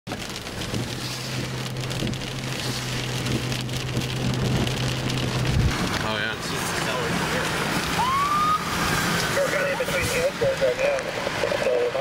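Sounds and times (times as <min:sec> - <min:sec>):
low vehicle hum: 0:00.1 - 0:12.0
rain on a car windshield: 0:00.1 - 0:12.0.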